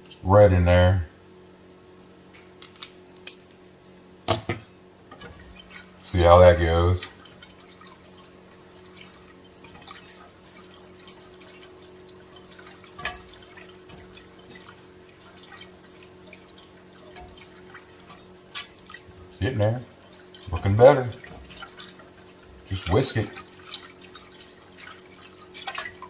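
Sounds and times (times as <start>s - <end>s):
faint steady hum: 0.0s - 26.0s
whisk scraping a saucepan: 5.1s - 26.0s.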